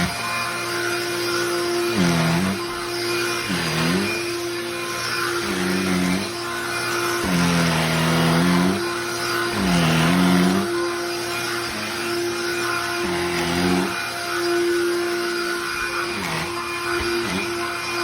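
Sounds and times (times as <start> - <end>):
handheld vacuum motor whine: 0.0 - 18.0.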